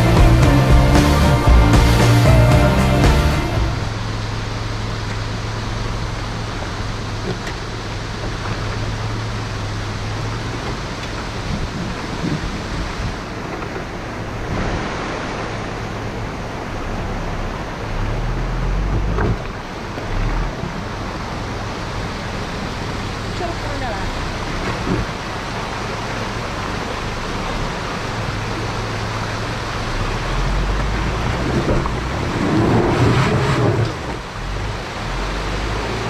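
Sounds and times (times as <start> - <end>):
diesel engine droning: 0.0 - 36.0
rushing noise: 0.0 - 36.0.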